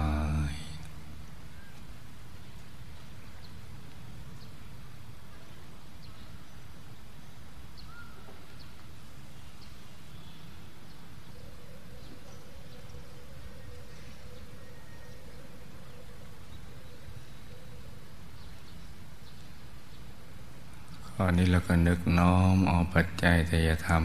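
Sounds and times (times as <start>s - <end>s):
faint bird chirps: 0.0s - 22.1s
background hiss and low rumble: 0.0s - 24.0s
faint steady hum: 0.0s - 24.0s.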